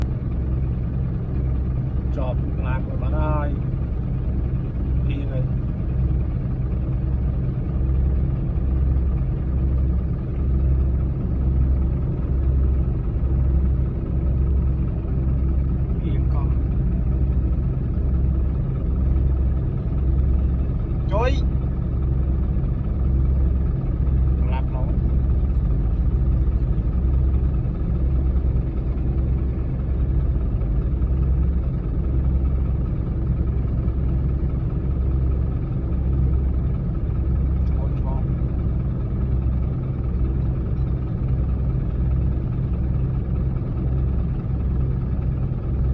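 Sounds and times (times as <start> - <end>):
vehicle engine rumbling: 0.0 - 45.9.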